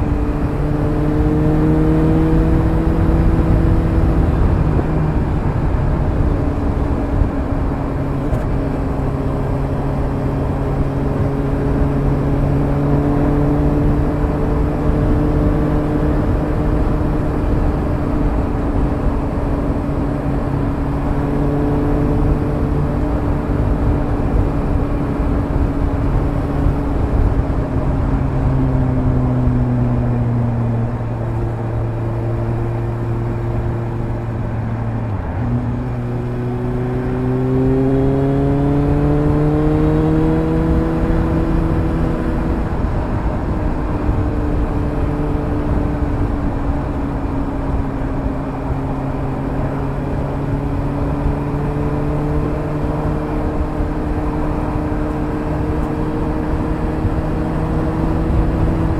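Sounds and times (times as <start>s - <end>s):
motorcycle engine: 0.0s - 58.9s
wind and road rush: 0.0s - 58.9s.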